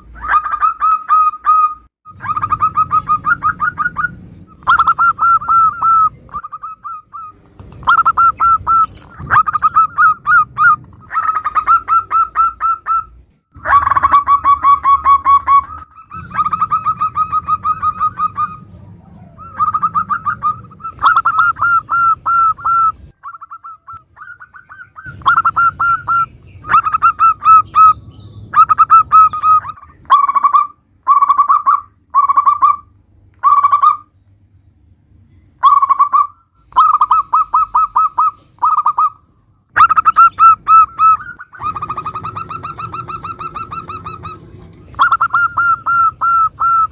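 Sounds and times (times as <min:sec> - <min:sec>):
doves cooing: 0:00.0 - 0:34.1, 0:35.6 - 0:46.9.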